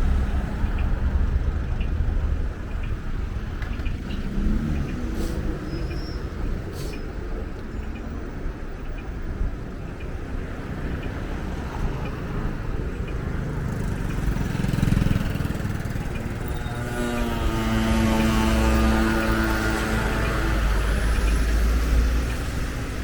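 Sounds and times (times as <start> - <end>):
traffic rumbling past: 0.0 - 23.0.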